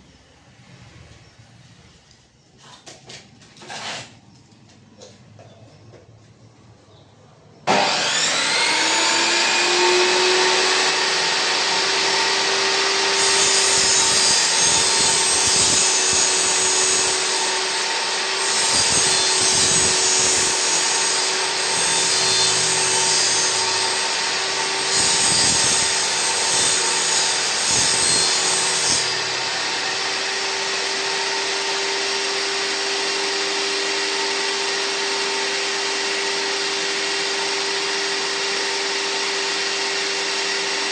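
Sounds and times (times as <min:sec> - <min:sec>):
saw blade cutting wood: 0:03.6 - 0:04.2, 0:07.7 - 0:40.9
table saw motor whining: 0:07.6 - 0:40.9.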